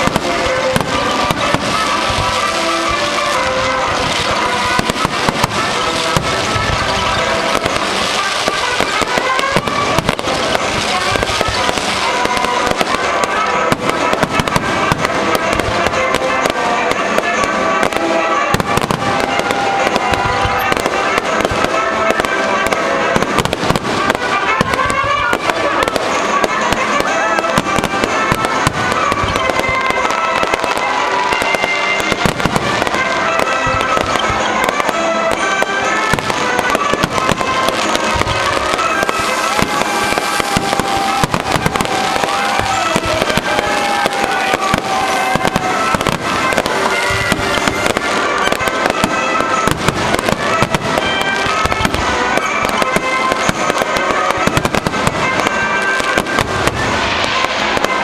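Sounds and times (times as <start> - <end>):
fireworks bursting and crackling: 0.0 - 58.0
music playing: 0.0 - 58.0.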